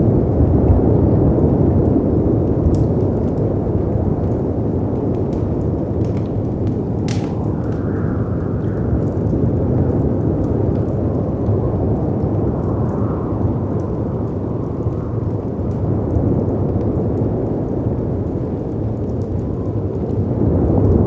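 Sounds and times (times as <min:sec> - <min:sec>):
wind roaring: 0:00.0 - 0:21.0
fireplace crackling: 0:01.6 - 0:21.0.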